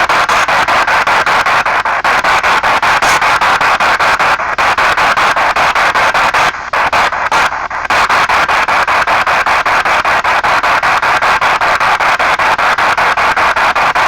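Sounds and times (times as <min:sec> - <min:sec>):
chopped radio static: 0:00.0 - 0:14.0.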